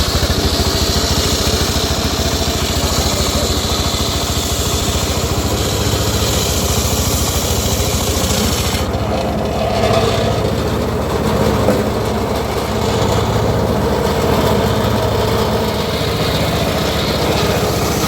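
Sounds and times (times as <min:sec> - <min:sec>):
sawmill engine throbbing: 0:00.0 - 0:18.0.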